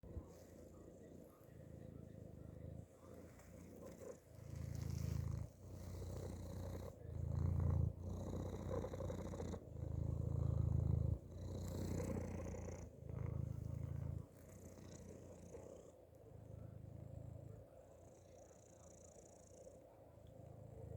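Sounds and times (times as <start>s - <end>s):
cat purring: 0.0s - 20.9s.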